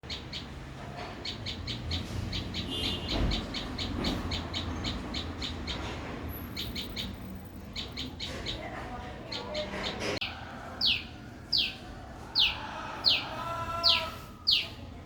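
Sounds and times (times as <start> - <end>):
bird chirping: 0.0 - 14.8.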